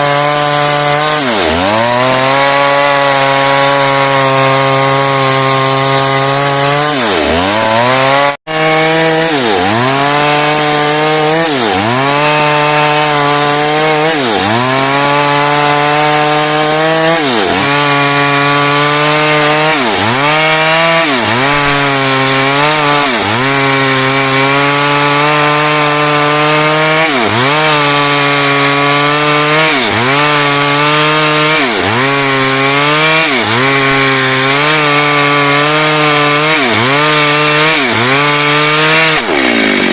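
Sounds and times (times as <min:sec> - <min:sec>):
chainsaw cutting through wood: 0:00.0 - 0:39.9.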